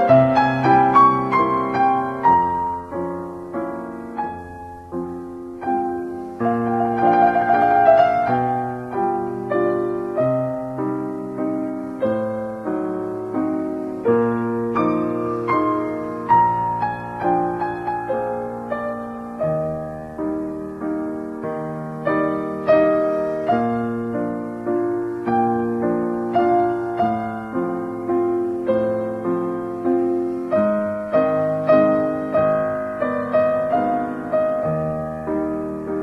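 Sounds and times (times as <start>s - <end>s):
background piano music: 0.0s - 36.0s.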